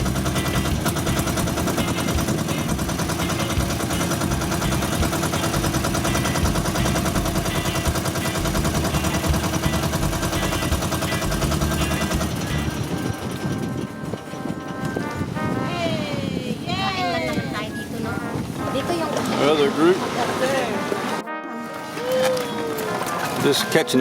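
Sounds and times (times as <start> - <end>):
boat engine pulsing exhaust: 0.0 - 16.7, 17.4 - 22.0.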